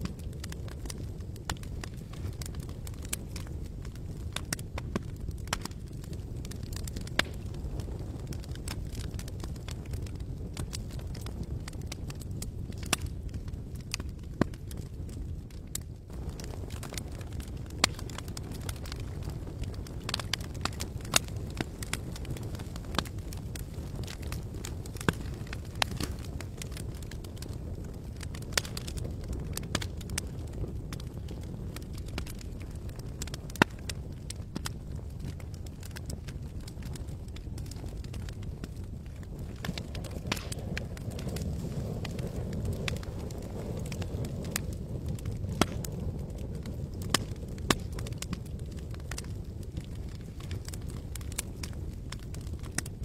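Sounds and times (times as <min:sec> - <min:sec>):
campfire crackling and popping: 0:00.0 - 0:53.0
loud fire snaps: 0:00.0 - 0:53.0
low rumble of flames: 0:00.0 - 0:53.0.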